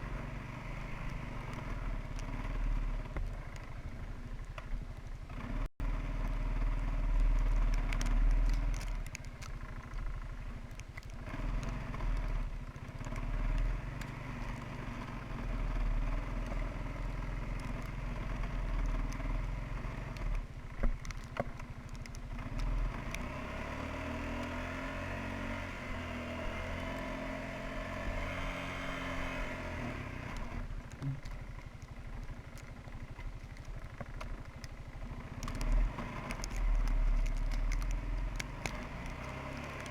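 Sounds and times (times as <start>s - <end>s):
atv engine revving: 0.0s - 4.6s, 5.2s - 39.9s.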